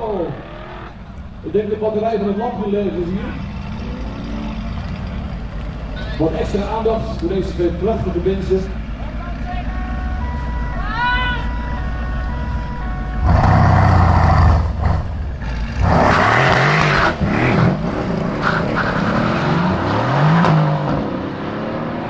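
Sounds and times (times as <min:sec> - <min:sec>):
car engine revving and accelerating: 0:00.0 - 0:09.6, 0:13.2 - 0:22.0.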